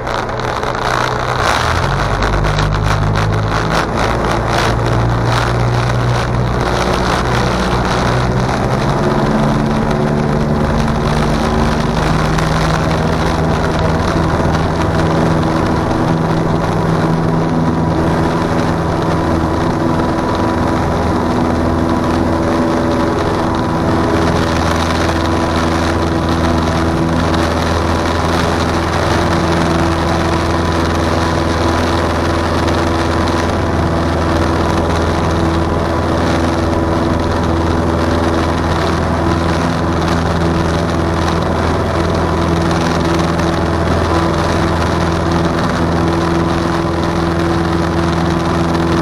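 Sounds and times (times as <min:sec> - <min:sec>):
small plane engine droning: 0:00.0 - 0:49.0.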